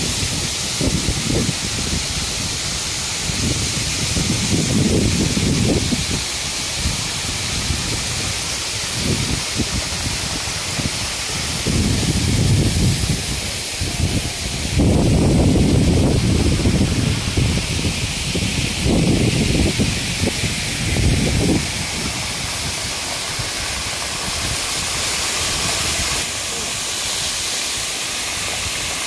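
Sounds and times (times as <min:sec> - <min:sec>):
wind buffeting microphone: 0:00.0 - 0:26.3
waterfall splashing onto rocks: 0:00.0 - 0:29.0.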